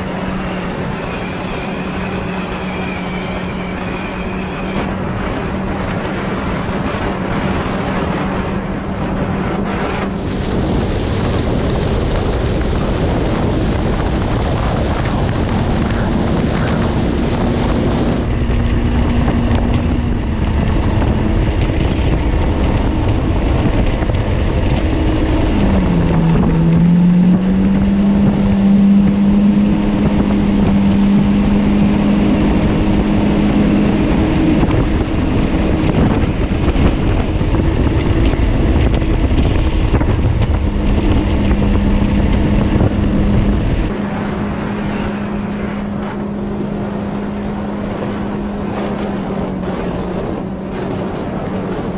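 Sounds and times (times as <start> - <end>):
jet ski engine running: 0.0 - 51.9
water rushing past: 0.0 - 51.9
wind buffeting microphone: 0.0 - 51.9.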